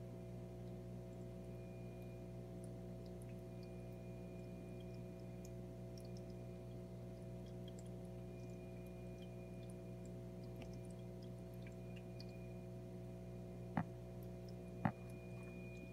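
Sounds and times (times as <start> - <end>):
low pump hum: 0.0 - 15.9.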